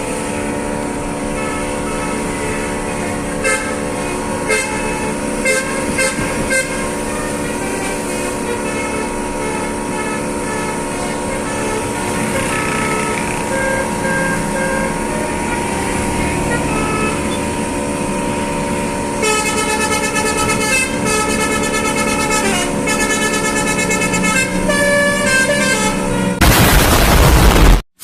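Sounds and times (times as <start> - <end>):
loud rush of noise: 0.0 - 21.4, 26.4 - 27.8
car horn playing a melody: 0.0 - 26.4
traffic noise: 0.0 - 26.4
car engine running: 0.0 - 27.8.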